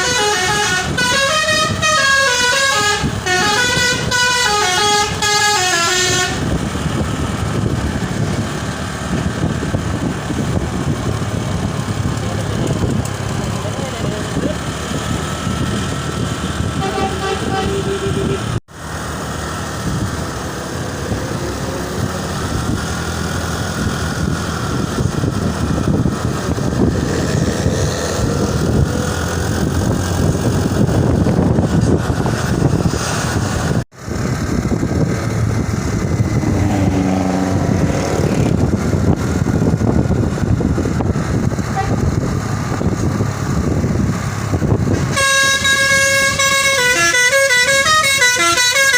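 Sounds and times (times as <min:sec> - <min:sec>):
road noise: 0:00.0 - 0:48.9
large vehicle engines passing: 0:03.1 - 0:45.2.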